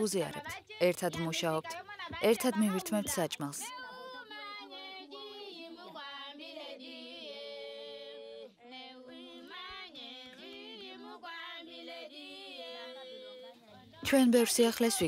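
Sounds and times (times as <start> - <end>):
women singing unaccompanied: 0.0 - 15.0.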